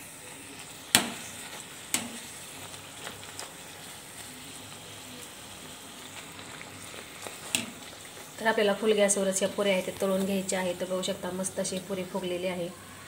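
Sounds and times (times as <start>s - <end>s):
puri deep-frying in oil: 0.0s - 13.0s.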